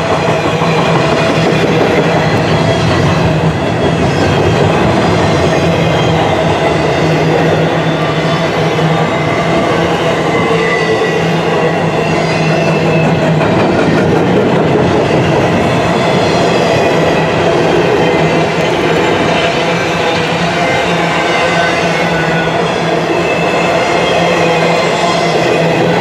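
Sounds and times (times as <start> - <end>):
train wheels clacking over rail joints: 0.0 - 7.6, 11.5 - 26.0.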